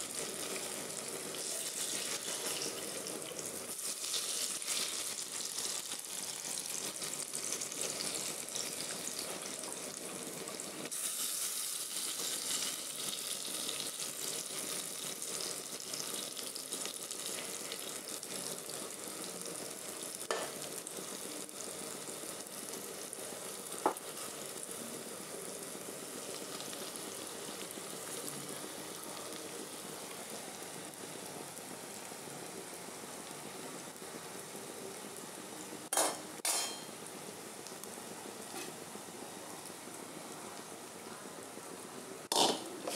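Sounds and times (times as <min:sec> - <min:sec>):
fritters sizzling in hot oil: 0:00.0 - 0:42.9.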